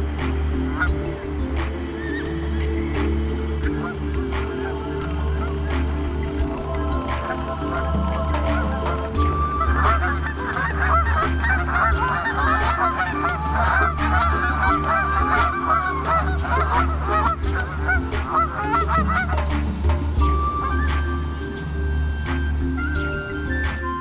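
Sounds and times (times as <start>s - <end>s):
birds honking: 0.0s - 23.8s
background music: 0.0s - 24.0s.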